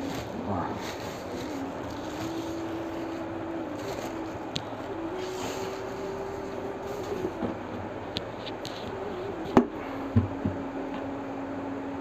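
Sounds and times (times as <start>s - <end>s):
constant hiss: 0.0s - 12.0s
faint steady hum: 0.0s - 12.0s.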